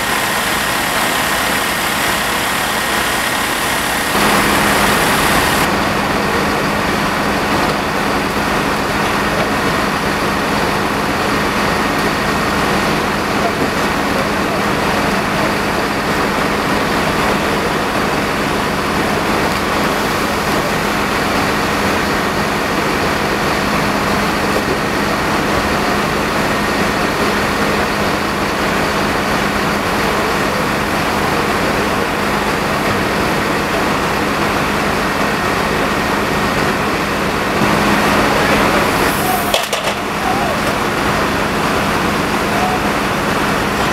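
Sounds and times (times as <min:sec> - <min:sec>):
fire truck engine running: 0:00.0 - 0:43.9.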